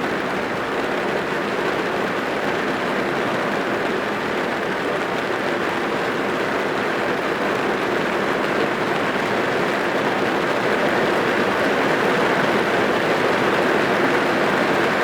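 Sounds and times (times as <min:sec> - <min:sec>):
rain on a car: 0:00.1 - 0:15.0.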